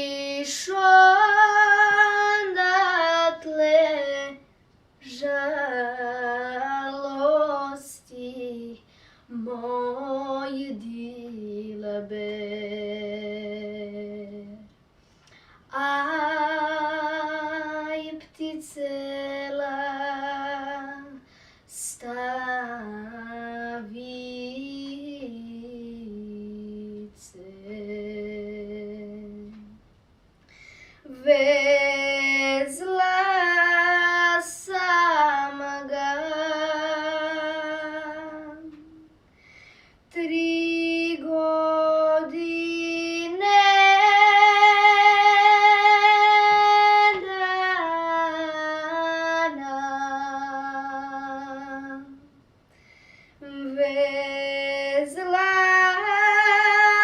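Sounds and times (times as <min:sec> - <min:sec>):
woman singing unaccompanied: 0:00.0 - 0:14.7, 0:15.7 - 0:29.9, 0:31.0 - 0:39.2, 0:40.1 - 0:52.4, 0:53.4 - 0:57.0.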